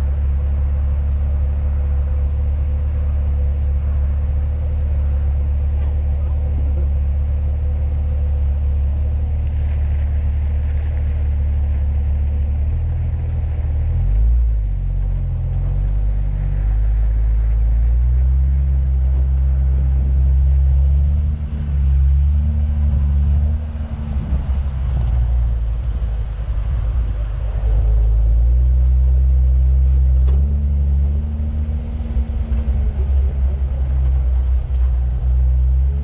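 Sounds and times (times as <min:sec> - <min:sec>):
engine rumbling and revving: 0:00.0 - 0:36.0.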